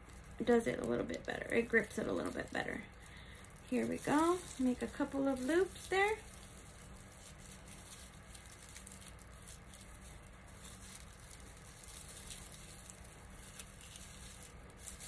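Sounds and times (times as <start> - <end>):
raffia rustling and crinkling: 0.0 - 15.0
steady low hum: 0.0 - 15.0.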